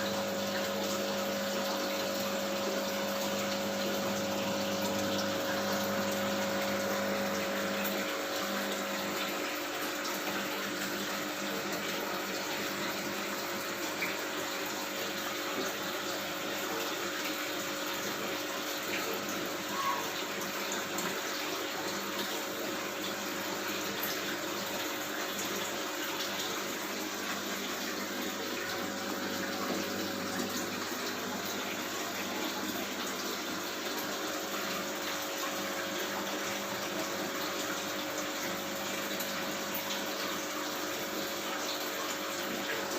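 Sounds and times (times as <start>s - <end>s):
aquarium water pump running: 0.0s - 42.9s
water splashing and trickling: 0.0s - 42.9s.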